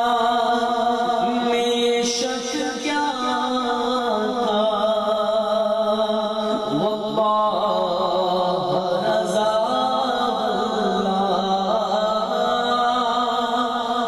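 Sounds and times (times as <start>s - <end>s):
man singing a devotional hymn: 0.0s - 14.0s.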